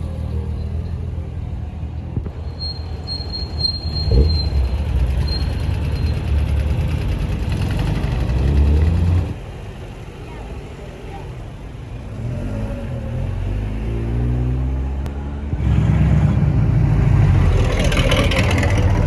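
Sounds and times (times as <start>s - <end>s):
car engine rumbling and revving: 0.0s - 19.0s.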